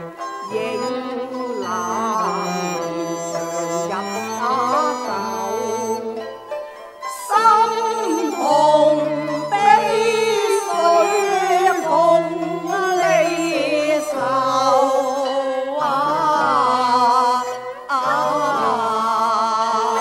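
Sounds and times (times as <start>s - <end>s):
opera duet singing: 0.0s - 6.4s, 7.0s - 20.0s
melodic instrumental accompaniment: 0.0s - 20.0s.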